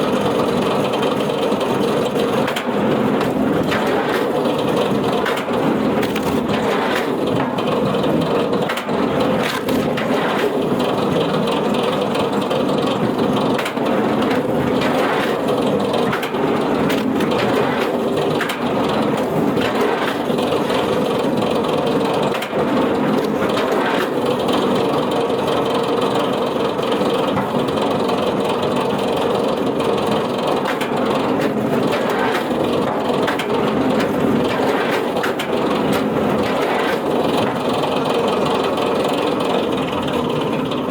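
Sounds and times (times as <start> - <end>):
wood-processing machine running: 0.0 - 40.9.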